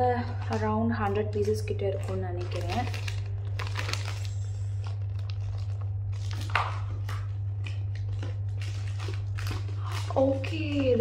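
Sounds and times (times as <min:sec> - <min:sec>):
plastic bags crinkling: 0:00.0 - 0:11.0
steady low hum: 0:00.0 - 0:11.0.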